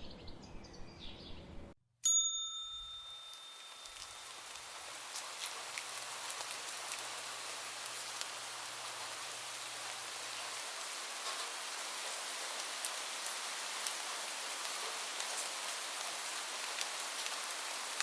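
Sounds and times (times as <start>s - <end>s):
rain falling: 3.2s - 18.0s.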